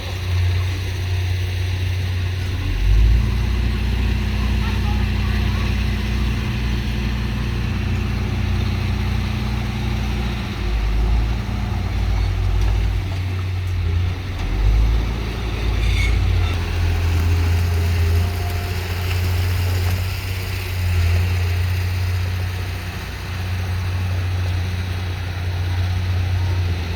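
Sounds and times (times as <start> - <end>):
heavy machinery diesel engine drone: 0.0 - 26.9.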